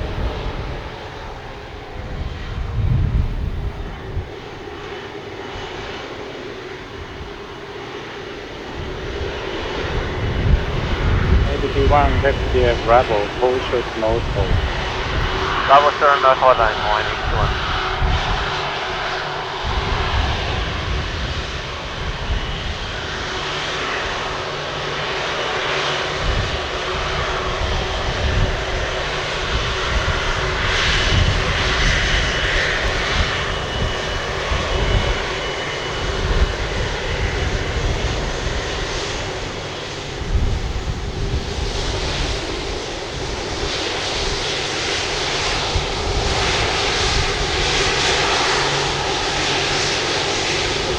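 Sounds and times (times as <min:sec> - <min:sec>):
jet engines running: 0:03.6 - 0:50.9.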